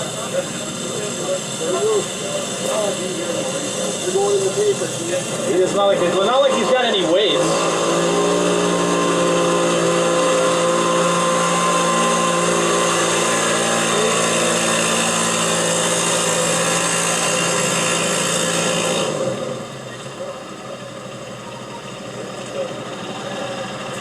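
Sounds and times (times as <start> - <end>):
atv engine revving high: 0.0 - 24.0.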